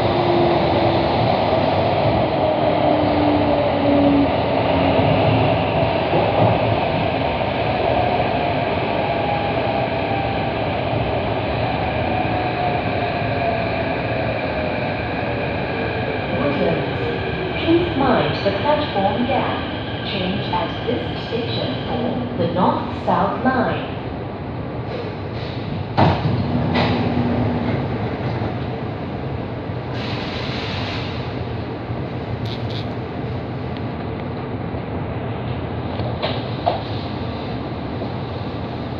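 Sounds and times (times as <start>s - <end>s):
metro train running rumble: 0.0s - 38.9s.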